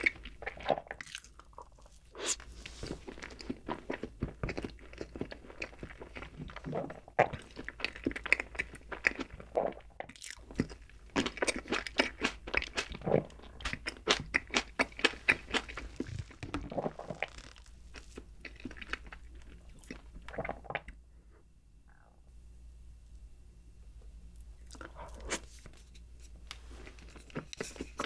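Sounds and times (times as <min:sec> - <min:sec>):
person chewing crunchy food: 0:00.0 - 0:20.9, 0:24.4 - 0:25.9, 0:26.6 - 0:28.0.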